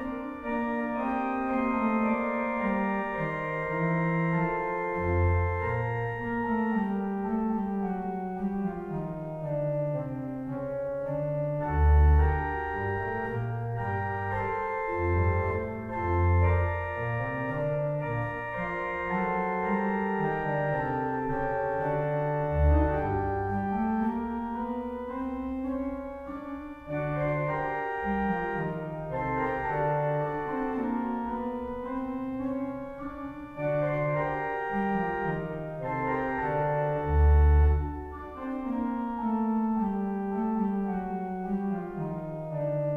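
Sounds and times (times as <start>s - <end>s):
pipe organ playing slowly: 0.0s - 42.9s.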